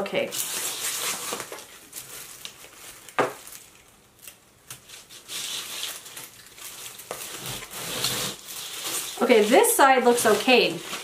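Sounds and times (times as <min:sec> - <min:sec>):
dry leaves rustling and crackling: 0:00.3 - 0:03.8, 0:05.1 - 0:11.0.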